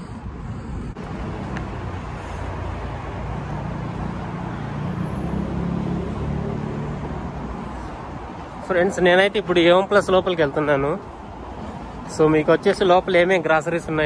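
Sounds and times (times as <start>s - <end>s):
passing cars rumbling: 0.0s - 14.0s.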